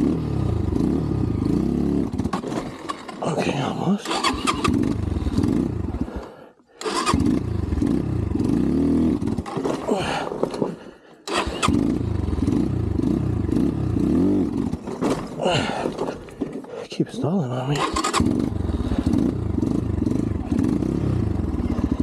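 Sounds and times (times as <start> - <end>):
dirt bike engine revving and stalling: 0.0 - 6.2, 6.8 - 10.7, 11.3 - 16.5, 17.7 - 22.0.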